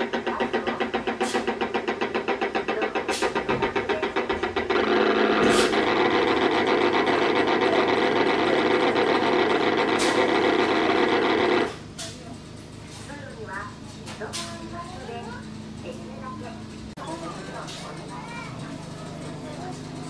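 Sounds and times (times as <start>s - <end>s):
locomotive rhythmic chuffing: 0.0s - 20.0s
steady locomotive running sound: 0.0s - 20.0s.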